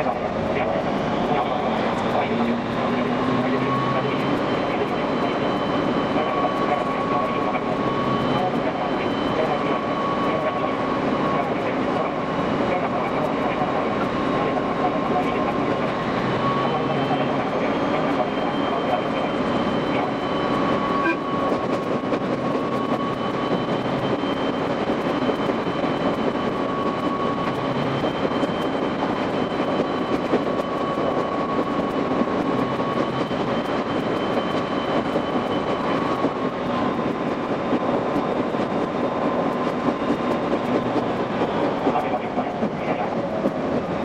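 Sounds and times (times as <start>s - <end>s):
fast train wheel clatter: 0.0s - 44.0s
high steady whine: 0.0s - 44.0s.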